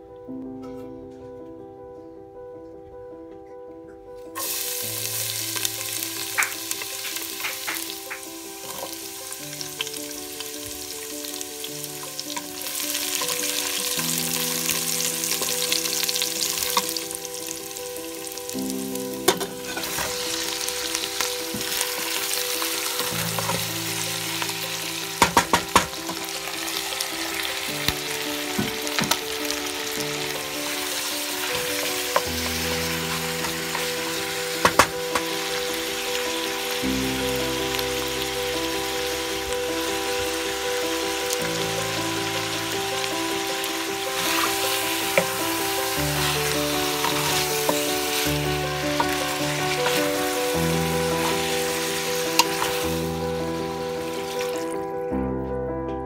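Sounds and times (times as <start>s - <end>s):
onion and garlic sizzling in oil: 4.4s - 54.8s.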